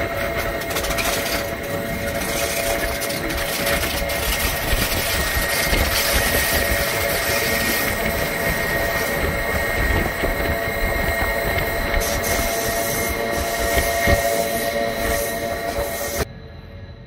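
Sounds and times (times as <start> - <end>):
faint whine: 0.0 - 17.0
train running noise and wind: 0.0 - 17.0.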